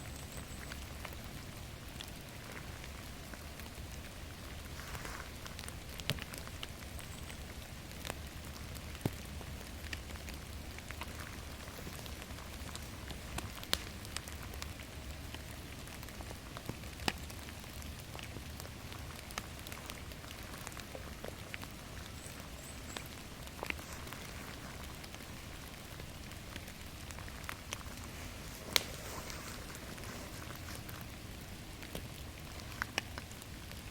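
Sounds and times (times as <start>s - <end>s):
rain falling in a forest: 0.0s - 33.9s.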